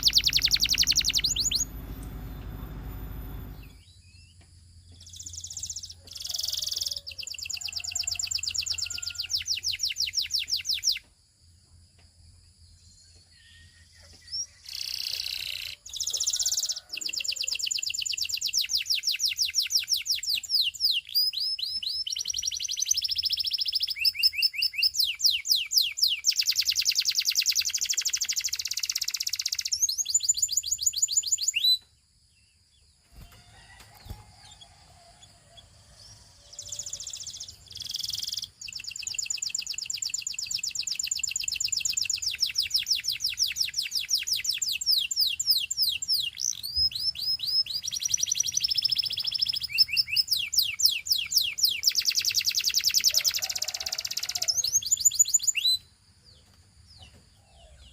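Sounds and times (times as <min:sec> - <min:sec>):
canary singing trills: 0:00.0 - 0:11.1, 0:12.9 - 0:31.8, 0:34.0 - 0:57.9.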